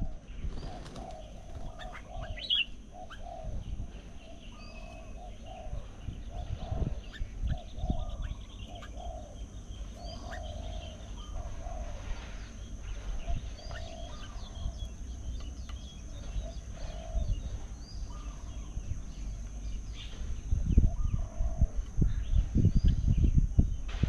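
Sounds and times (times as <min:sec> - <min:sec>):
high bird chirps and twitters: 0:00.6 - 0:21.2.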